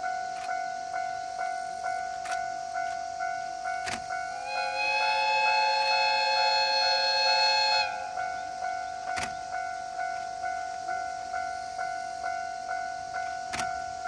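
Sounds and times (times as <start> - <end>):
diesel locomotive horn blast: 0.0 - 11.3.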